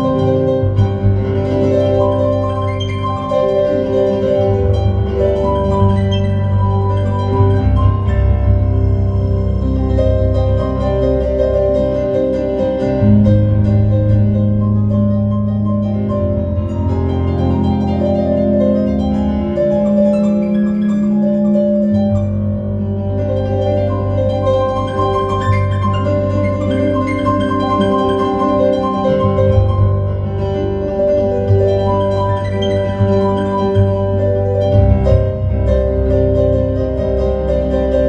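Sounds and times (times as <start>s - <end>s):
solo piano improvisation: 0.0s - 38.0s.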